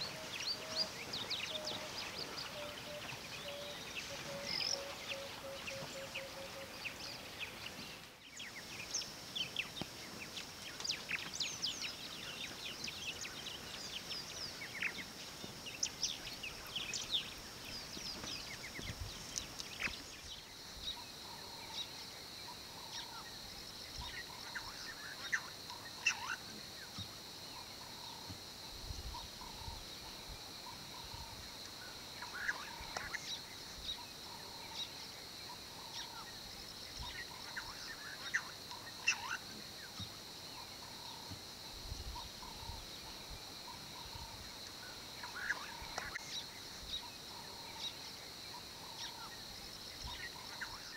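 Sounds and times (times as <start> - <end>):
wild birds chirping: 0.0 - 50.9.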